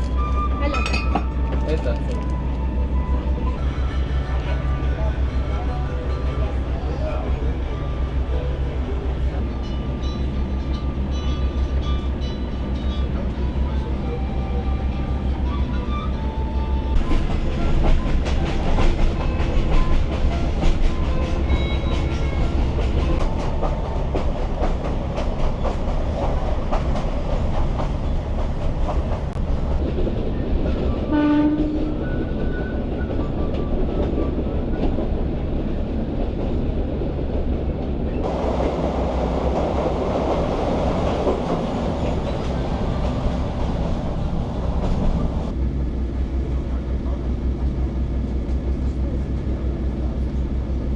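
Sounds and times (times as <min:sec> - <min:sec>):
train wheels rumbling over track: 0:00.0 - 0:50.9.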